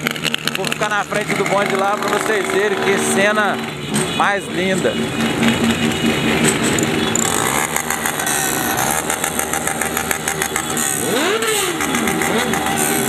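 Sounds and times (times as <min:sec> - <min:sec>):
motorcycle engine revving: 0:00.0 - 0:13.0
motorcycle engines running: 0:00.0 - 0:13.0.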